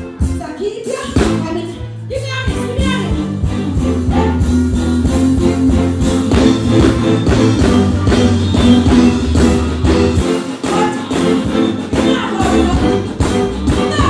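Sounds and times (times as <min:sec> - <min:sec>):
bass guitar: 0:00.0 - 0:14.0
drum kit: 0:00.0 - 0:14.0
electric guitar: 0:01.1 - 0:14.0.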